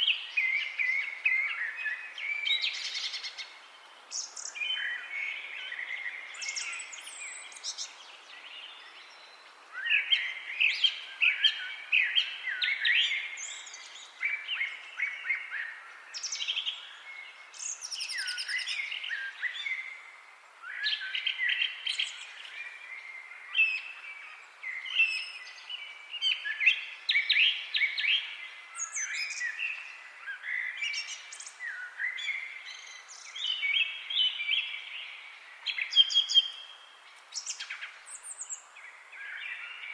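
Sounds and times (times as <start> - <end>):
faint forest ambience hiss: 0.0 - 39.9
songbirds chirping and trilling: 0.0 - 39.9.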